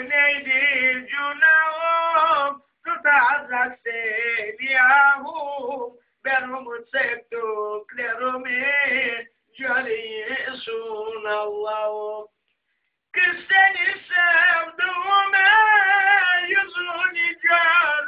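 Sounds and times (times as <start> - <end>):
man singing unaccompanied: 0.0 - 12.4, 13.1 - 18.0.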